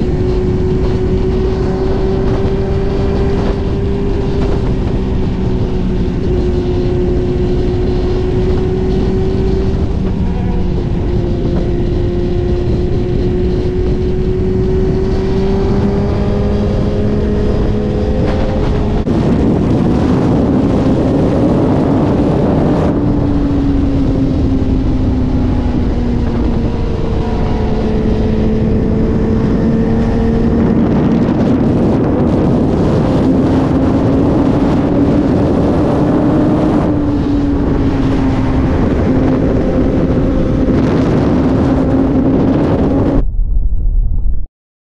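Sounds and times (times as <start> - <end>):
wind and road rush: 0.0 - 44.5.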